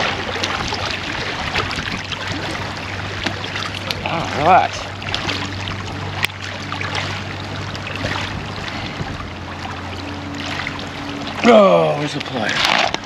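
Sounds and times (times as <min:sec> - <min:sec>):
steady low hum: 0:00.0 - 0:13.0
waves lapping on rocky shore: 0:00.0 - 0:13.0.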